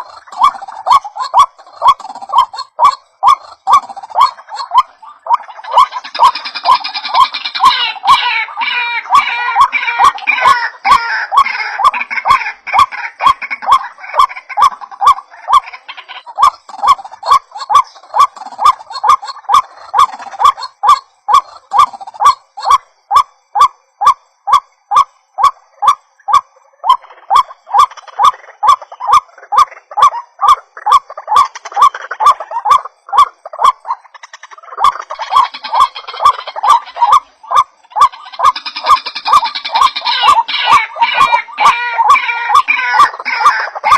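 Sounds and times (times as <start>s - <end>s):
overlapping bird calling: 0.0s - 43.9s
waterhen harsh calls: 0.0s - 43.9s.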